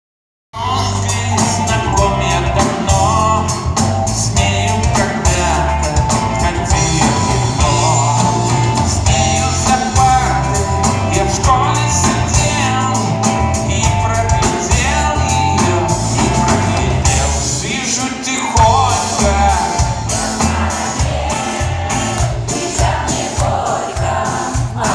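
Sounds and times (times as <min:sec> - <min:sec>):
rock song with singing: 0:00.6 - 0:24.9.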